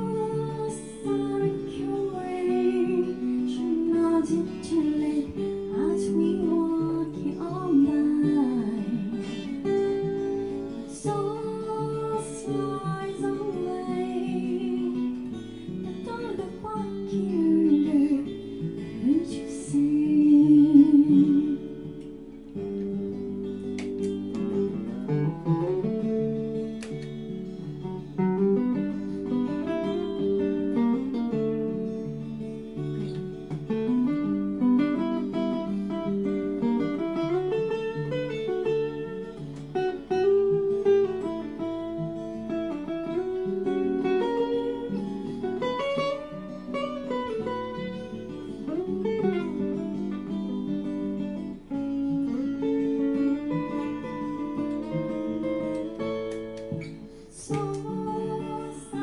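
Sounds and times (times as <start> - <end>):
acoustic guitar: 0.0 - 59.0.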